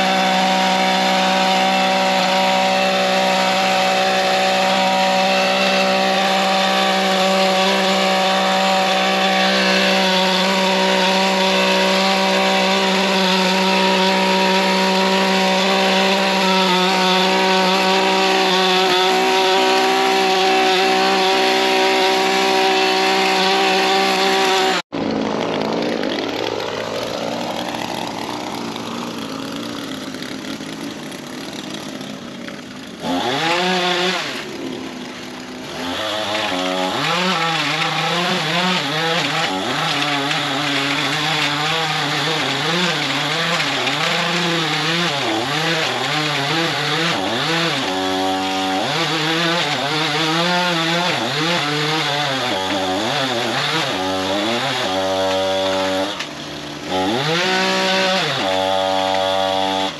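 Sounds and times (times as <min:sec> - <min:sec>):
lawn edger engine running: 0:00.0 - 0:59.9.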